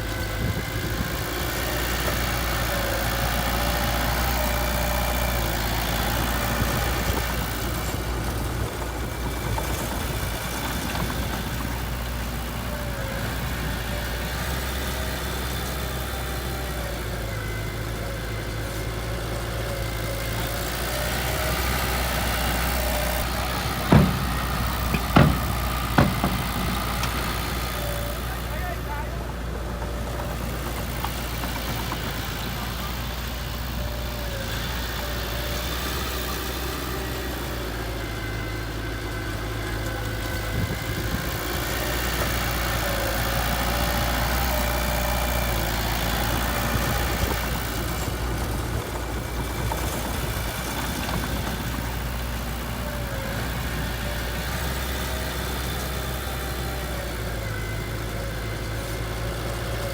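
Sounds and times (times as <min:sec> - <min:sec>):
diesel engine running at low revs: 0:00.0 - 0:59.9.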